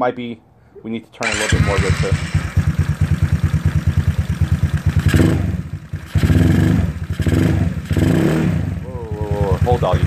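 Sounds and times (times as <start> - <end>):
scooter engine idling: 1.2 - 8.0, 8.6 - 10.0.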